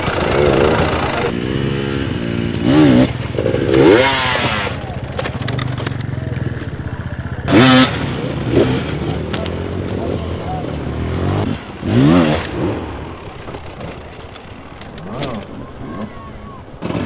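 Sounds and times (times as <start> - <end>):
engine throttle bursts: 0.0 - 16.0, 16.6 - 17.0
dirt bike engine chugging: 0.0 - 17.0.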